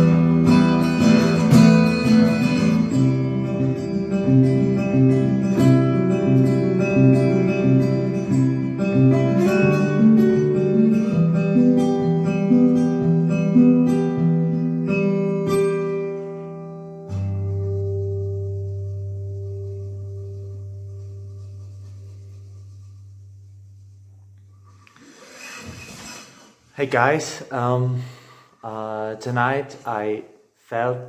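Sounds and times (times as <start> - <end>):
acoustic guitar instrumental piece: 0.0 - 27.2.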